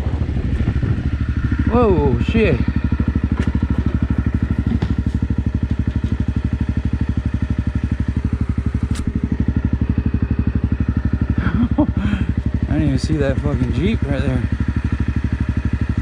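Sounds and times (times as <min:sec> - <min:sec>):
motorcycle engine running at low revs: 0:00.0 - 0:16.0.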